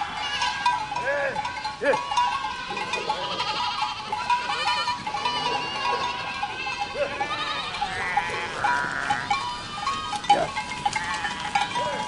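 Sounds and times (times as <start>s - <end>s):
goats bleating: 0.0s - 12.0s.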